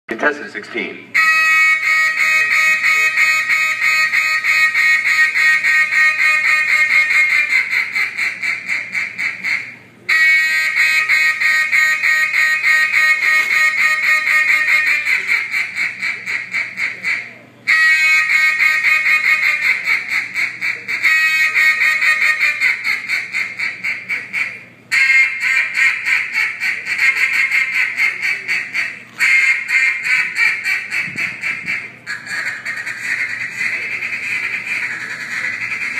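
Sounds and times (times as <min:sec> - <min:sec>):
duck call quacking: 0:01.2 - 0:35.9.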